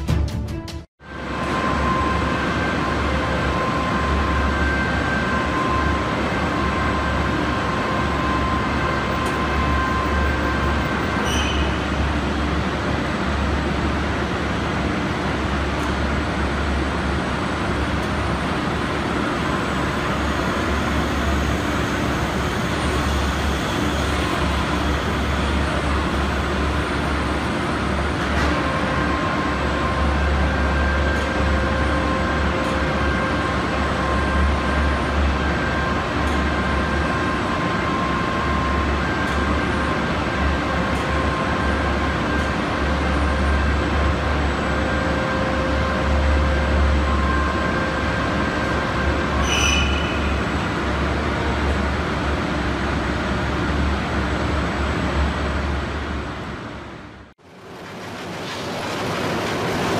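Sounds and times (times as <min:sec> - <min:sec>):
high machinery tone: 0:01.0 - 0:12.8, 0:16.2 - 0:52.5.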